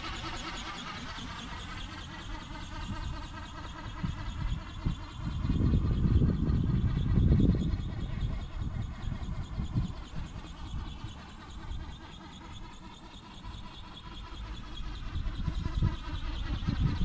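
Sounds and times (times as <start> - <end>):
high electric motor whine: 0.0 - 17.0
wind buffeting microphone: 2.6 - 17.0.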